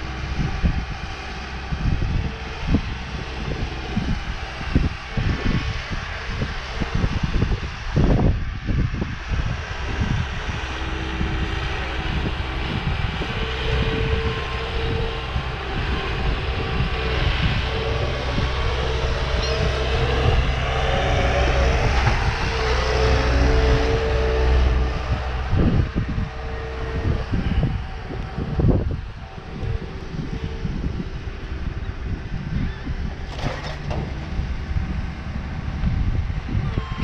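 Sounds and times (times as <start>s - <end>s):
truck engine humming: 0.0s - 37.0s
wind gusts on microphone: 0.0s - 37.0s.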